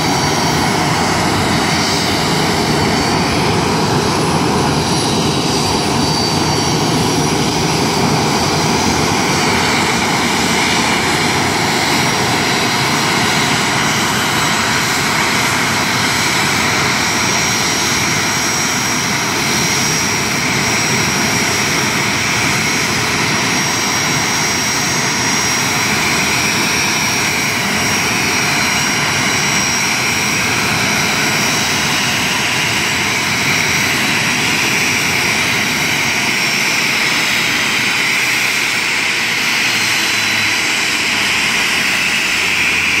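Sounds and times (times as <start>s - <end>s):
jet engines idling: 0.0s - 43.0s.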